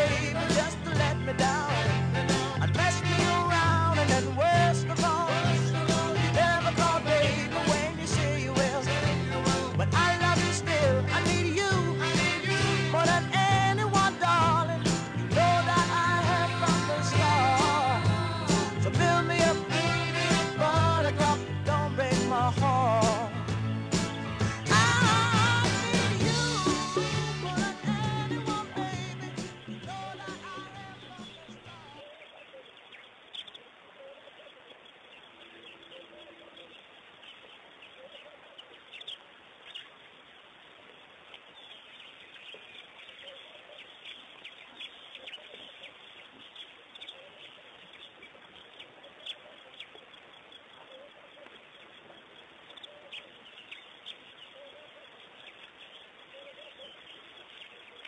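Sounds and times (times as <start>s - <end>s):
birds chirping and calling: 0.0s - 58.0s
outdoor ambience: 0.0s - 58.0s.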